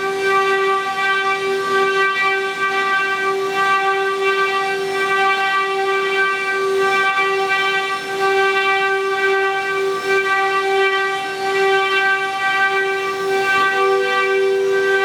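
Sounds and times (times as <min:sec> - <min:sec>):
wood router spindles whining: 0:00.0 - 0:15.0.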